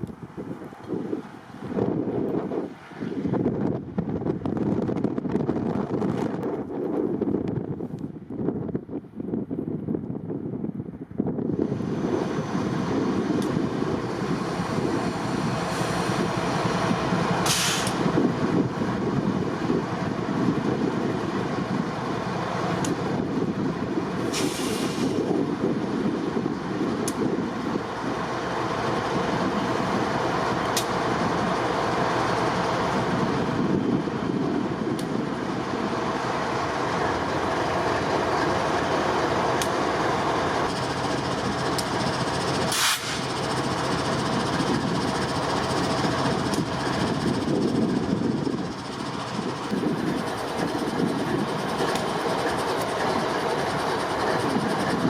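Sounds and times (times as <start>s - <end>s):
strong wind rushing: 0.0s - 55.0s
wind buffeting microphone: 0.0s - 55.0s.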